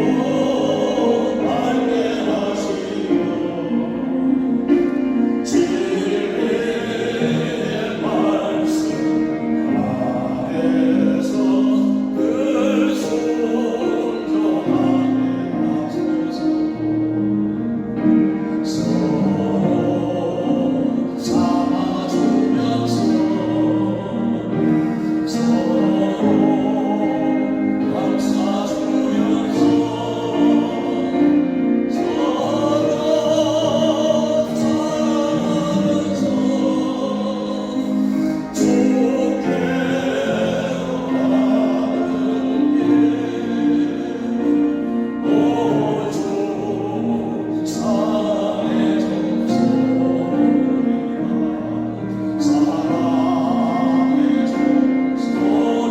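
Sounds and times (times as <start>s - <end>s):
singers performing a hymn: 0.0s - 55.9s
sustained instrumental accompaniment: 0.0s - 55.9s.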